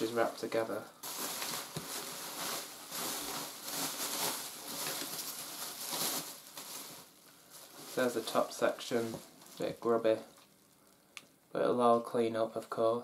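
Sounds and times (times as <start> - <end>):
bubble wrap and plastic crinkling: 0.0 - 11.0.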